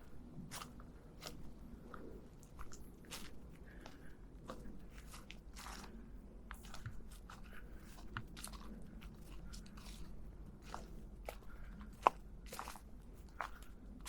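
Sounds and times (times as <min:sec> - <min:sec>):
footsteps crunching on trail: 0:00.0 - 0:14.0.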